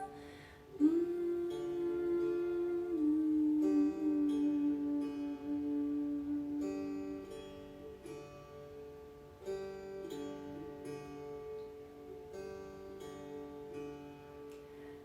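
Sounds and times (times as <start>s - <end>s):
plucked string instrument strummed: 0.0s - 15.0s.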